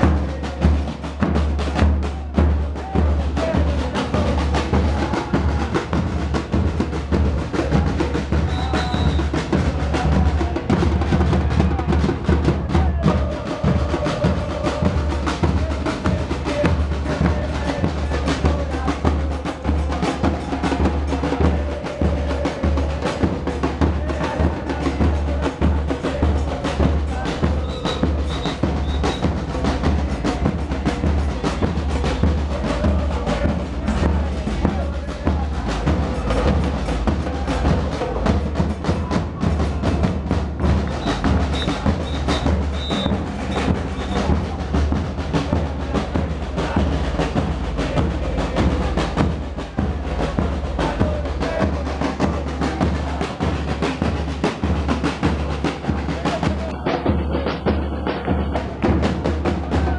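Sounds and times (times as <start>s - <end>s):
crowd singing a chant: 0.0s - 59.9s
drum band beating: 0.0s - 59.9s.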